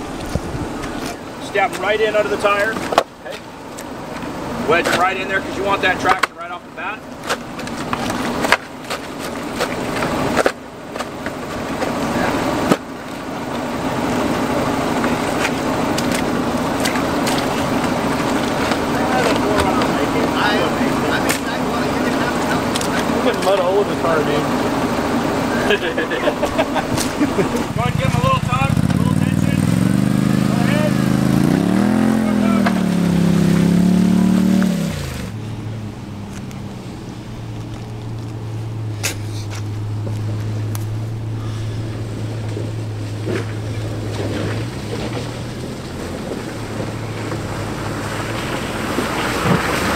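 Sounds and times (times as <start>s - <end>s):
car engine revving: 0.0s - 49.9s
grit striking car: 0.0s - 49.9s
tires spinning in mud: 0.0s - 49.9s.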